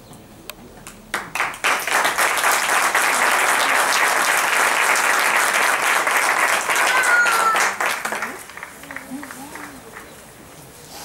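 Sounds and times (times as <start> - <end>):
spectators applauding: 1.1 - 10.2.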